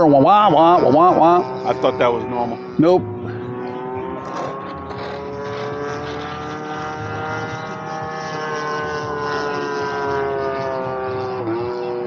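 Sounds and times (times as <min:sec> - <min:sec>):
model plane engine drone: 0:00.0 - 0:12.0.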